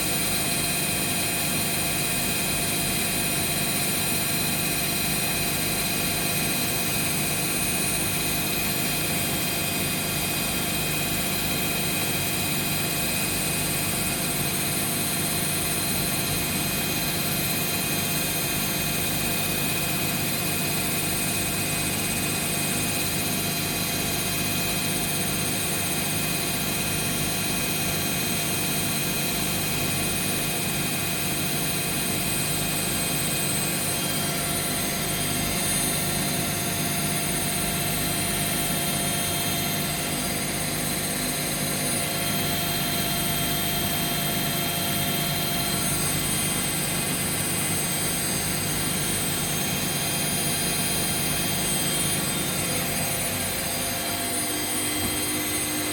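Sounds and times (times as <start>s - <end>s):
washing machines spinning: 0.0s - 55.9s.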